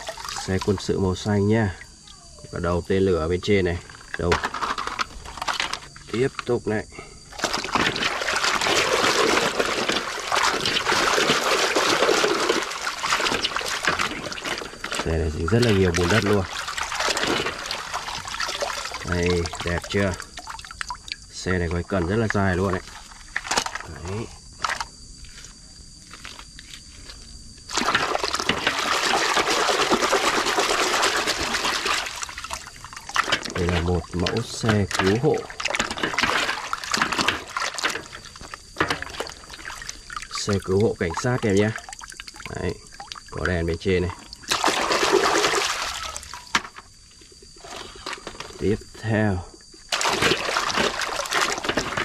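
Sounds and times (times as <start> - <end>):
water splashing and sloshing: 0.0 - 2.5, 3.4 - 52.0.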